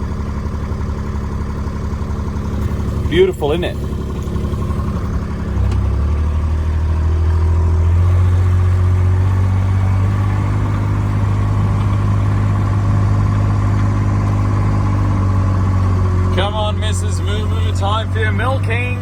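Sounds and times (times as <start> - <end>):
farm vehicle engine running: 0.0 - 19.0.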